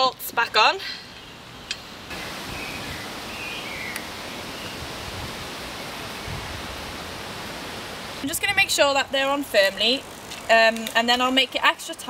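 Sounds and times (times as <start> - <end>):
steady outdoor rushing hiss: 0.0 - 12.0.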